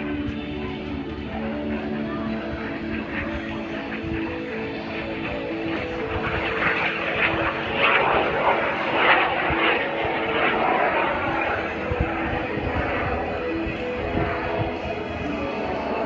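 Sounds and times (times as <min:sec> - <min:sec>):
airplane engine overhead: 0:00.0 - 0:16.0.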